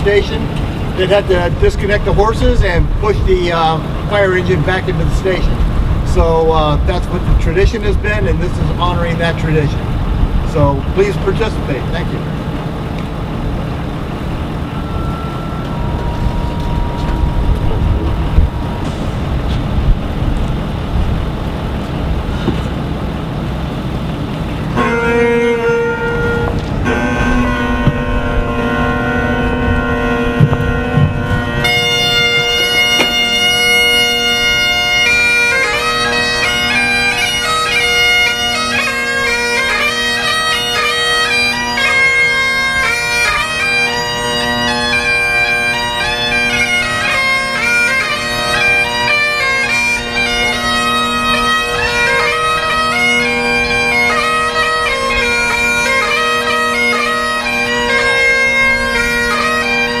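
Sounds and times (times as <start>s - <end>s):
bagpipes playing: 8.7s - 60.0s.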